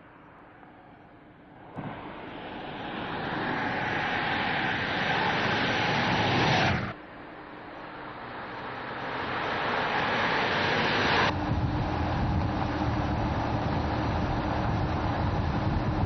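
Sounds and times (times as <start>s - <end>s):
engine and road drone: 0.0s - 16.0s
car driving by: 1.6s - 16.0s.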